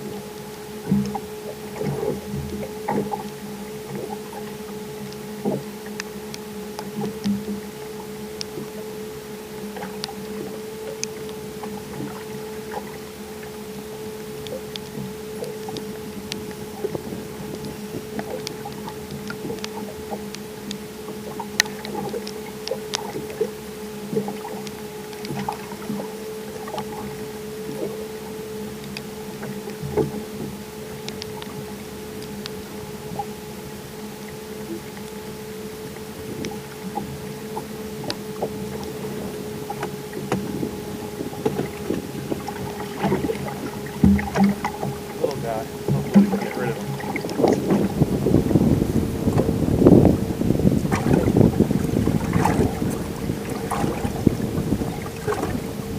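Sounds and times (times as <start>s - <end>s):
boat motor hum: 0.0s - 55.9s
water slapping against hull: 0.0s - 55.9s.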